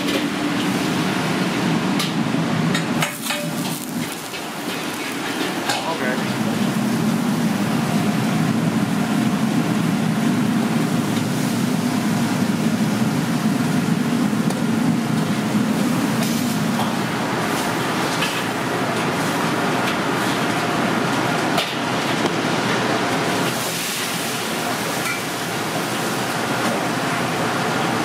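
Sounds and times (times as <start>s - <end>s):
busy kitchen roar: 0.0s - 28.0s.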